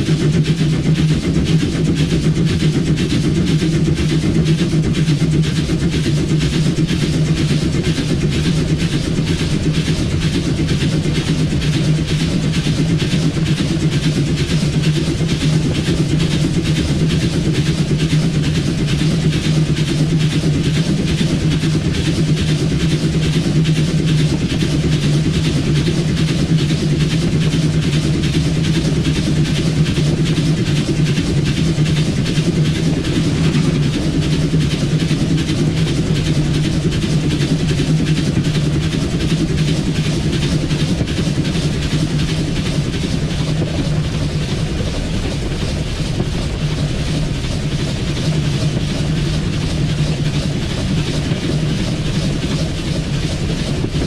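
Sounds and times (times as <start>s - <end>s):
train running noise in cab: 0.0s - 54.0s.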